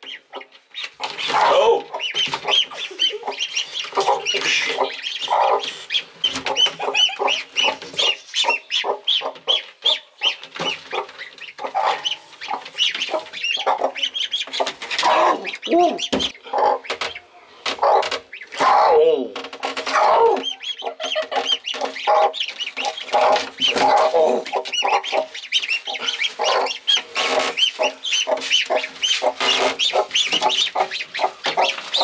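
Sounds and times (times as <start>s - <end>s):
ducklings peeping: 0.0s - 32.0s
hen clucking: 0.0s - 32.0s.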